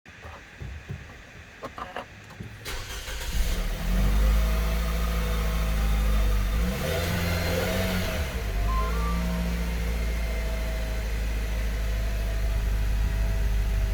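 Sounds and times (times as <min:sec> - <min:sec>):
car engine starting and idling: 0:00.2 - 0:13.9.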